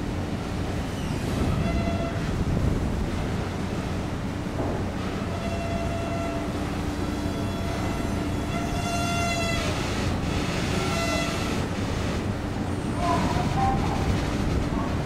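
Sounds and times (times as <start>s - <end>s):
ferry diesel engines rumbling: 0.0s - 15.0s.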